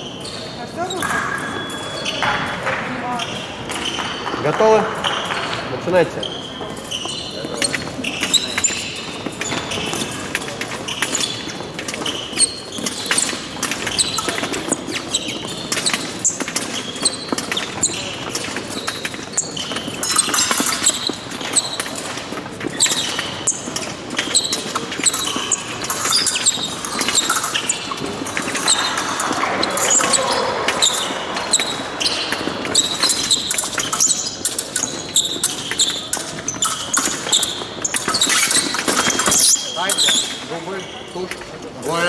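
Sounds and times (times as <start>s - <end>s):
shoe squeaks: 0.0s - 42.0s.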